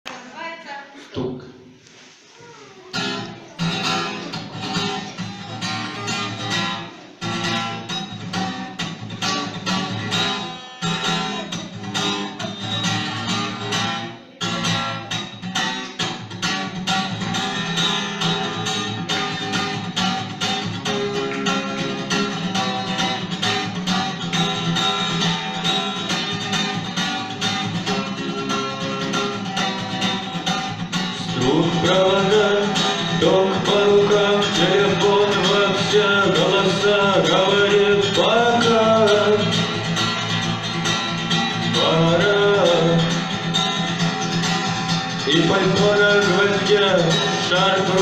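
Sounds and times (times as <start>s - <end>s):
guitar strumming: 2.9s - 48.0s.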